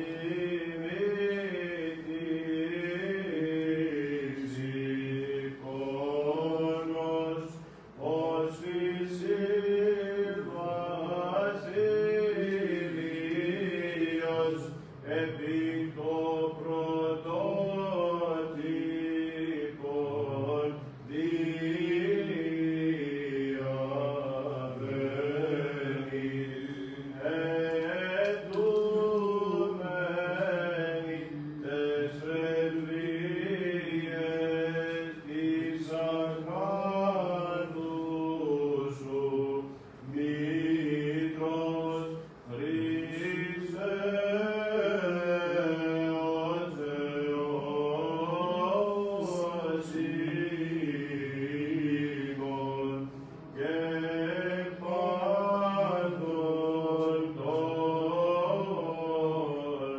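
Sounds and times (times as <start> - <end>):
man chanting a hymn: 0.0 - 59.9.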